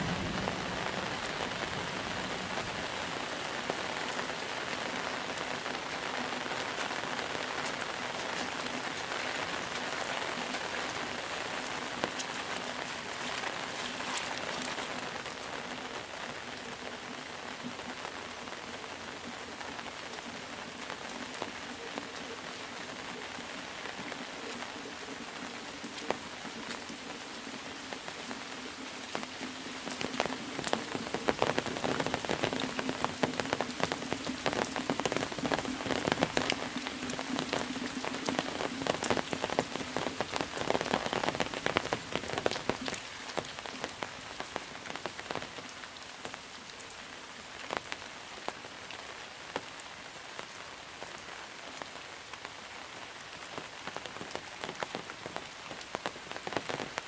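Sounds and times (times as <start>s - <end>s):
heavy rain drops hitting surface: 0.0s - 57.0s.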